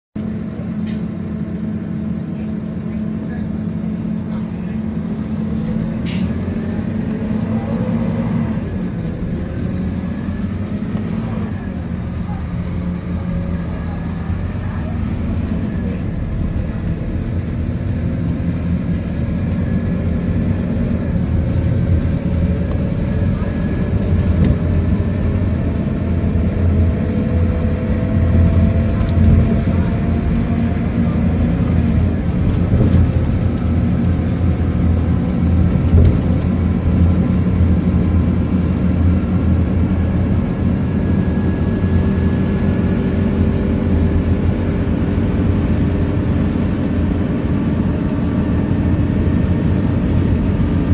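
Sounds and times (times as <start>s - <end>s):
bus engine drone: 0.2s - 50.9s
road noise: 0.2s - 50.9s.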